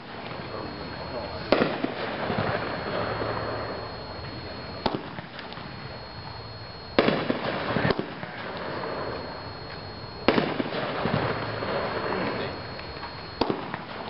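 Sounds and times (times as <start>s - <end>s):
crackling pops: 0.0s - 14.0s
firework burst: 0.0s - 14.0s
firework report: 0.0s - 14.0s.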